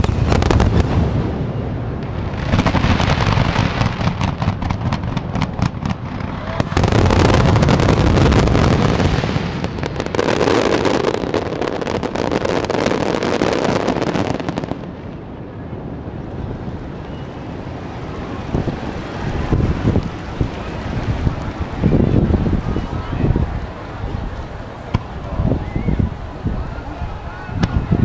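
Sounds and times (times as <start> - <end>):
fireworks bursting and crackling: 0.0 - 15.4, 16.0 - 26.2.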